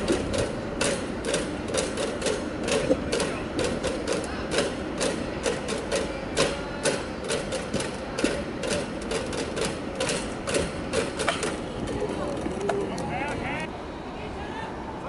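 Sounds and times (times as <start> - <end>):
murmur of voices: 2.7 - 15.0.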